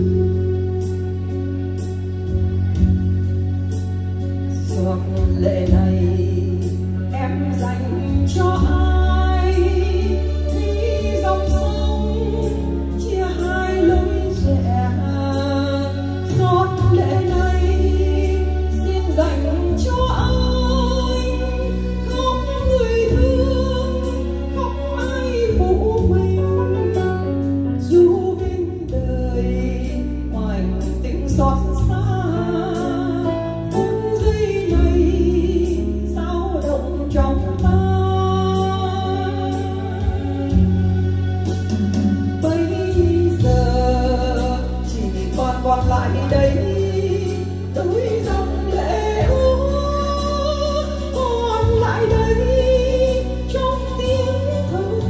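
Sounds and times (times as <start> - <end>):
electronic keyboard accompaniment: 0.0 - 55.0
woman singing into microphone: 4.4 - 55.0.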